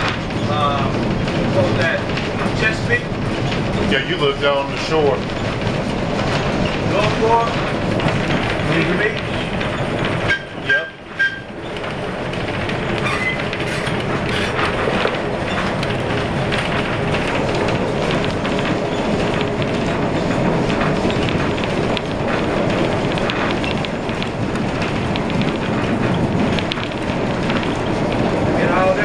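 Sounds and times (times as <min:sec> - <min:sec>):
clicks and rattles: 0:00.0 - 0:29.0
streetcar wheels rumbling on rails: 0:00.0 - 0:29.0.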